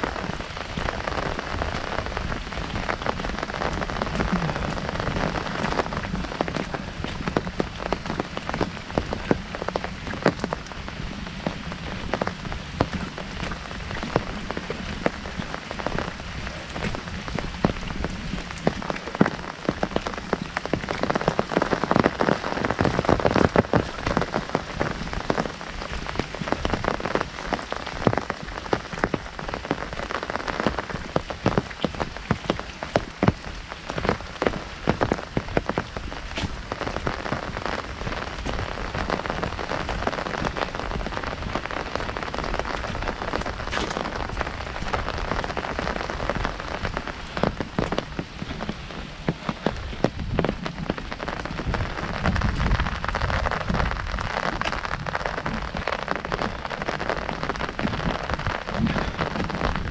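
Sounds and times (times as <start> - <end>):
hiss of rain falling: 0.0 - 59.9
rain drumming on an umbrella: 0.0 - 59.9.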